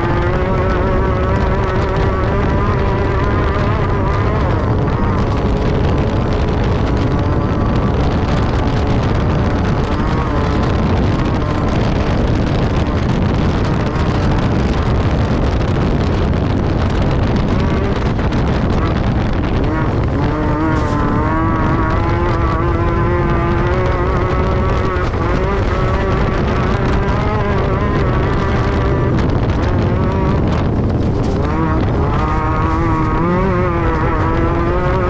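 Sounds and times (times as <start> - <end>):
race buggy engine running hard: 0.0 - 35.0.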